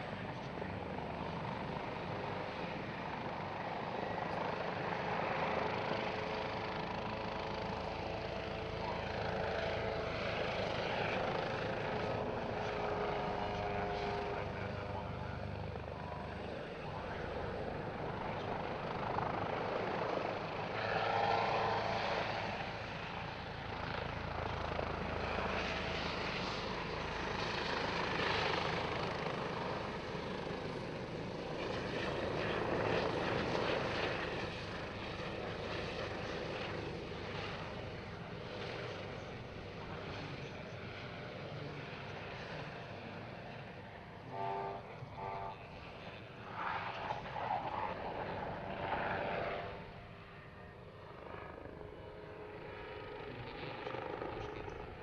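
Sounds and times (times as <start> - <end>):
helicopter rotor and turbine: 0.0 - 55.0.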